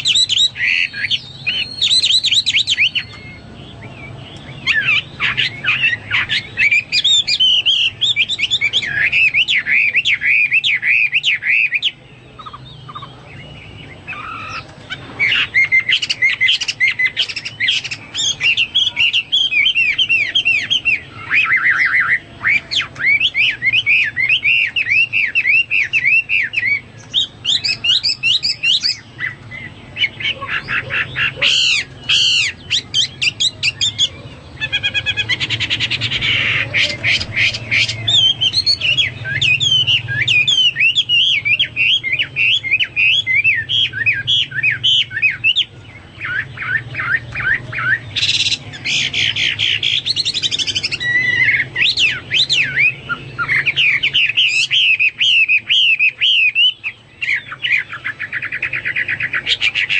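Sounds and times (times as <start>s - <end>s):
bird singing whistled trills: 0.0s - 59.9s.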